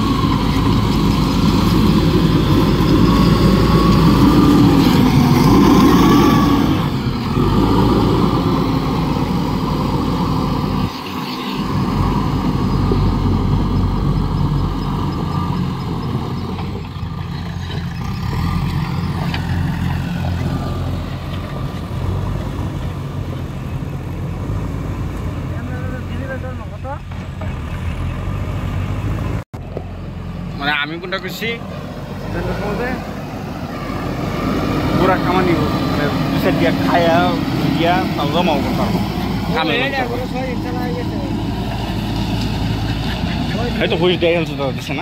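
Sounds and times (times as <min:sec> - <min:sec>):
backhoe diesel engine running: 0:00.0 - 0:45.0.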